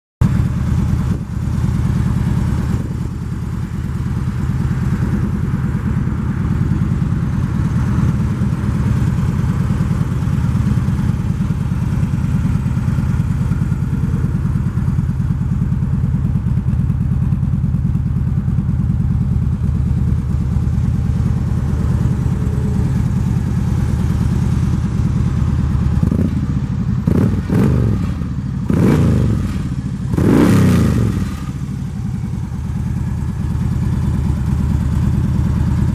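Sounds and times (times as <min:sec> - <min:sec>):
motorcycle engine idling and revving: 0:00.2 - 0:35.9.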